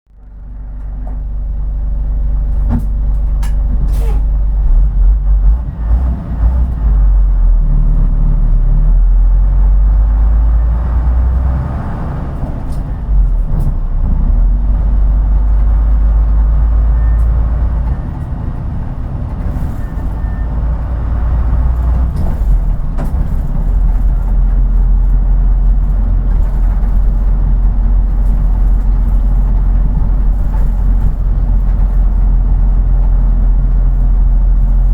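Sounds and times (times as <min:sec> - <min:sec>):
bus diesel engine rumble: 0:00.1 - 0:34.9.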